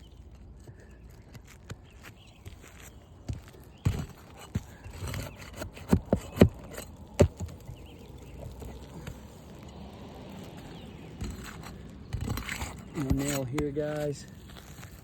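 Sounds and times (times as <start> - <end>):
rustling and handling noise: 0.0 - 15.0.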